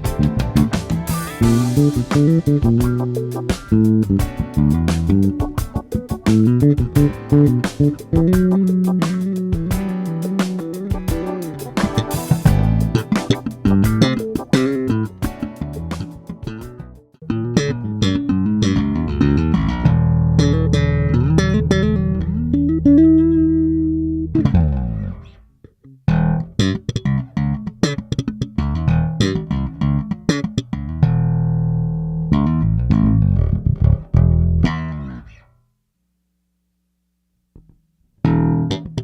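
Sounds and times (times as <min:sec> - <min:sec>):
electric bass plucked notes: 0:00.0 - 0:35.5, 0:37.6 - 0:39.0.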